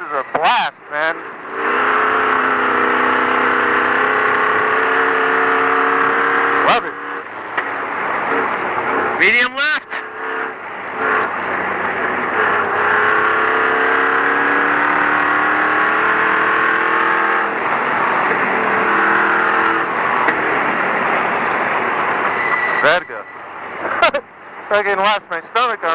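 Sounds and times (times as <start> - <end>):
road and tyre noise: 0.0 - 25.9
truck engine under load: 0.0 - 25.9.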